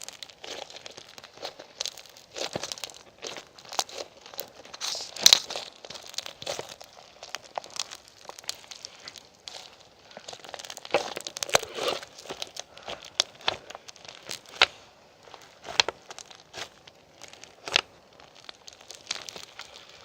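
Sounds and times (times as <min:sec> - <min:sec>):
crinkling and crackling: 0:00.0 - 0:20.0.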